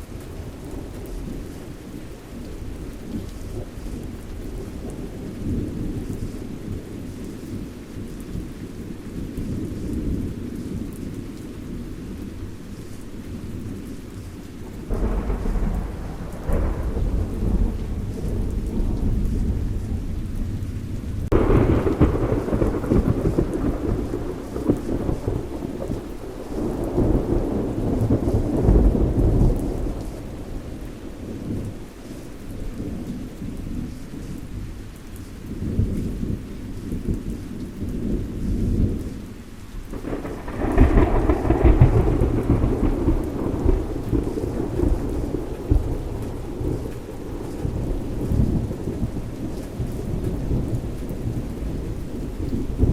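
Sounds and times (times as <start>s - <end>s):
thunder rumbling and cracking: 0.0s - 34.8s, 35.4s - 52.9s
steady rain: 0.0s - 52.9s.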